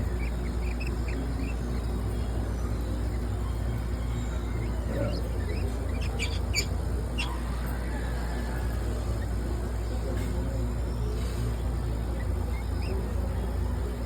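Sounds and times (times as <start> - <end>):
lovebirds chirping: 0.0 - 14.0
steady low hum: 0.0 - 14.0.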